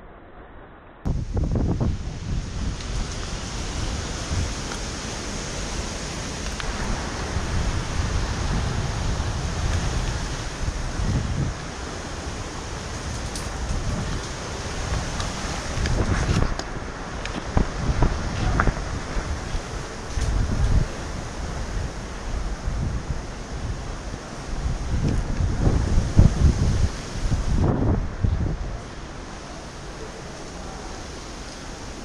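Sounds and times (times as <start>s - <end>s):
wind noise on microphone: 1.0s - 32.0s.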